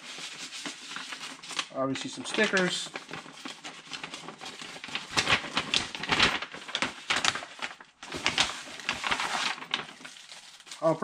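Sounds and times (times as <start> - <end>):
paper envelope rustling and crinkling: 0.0 - 11.0.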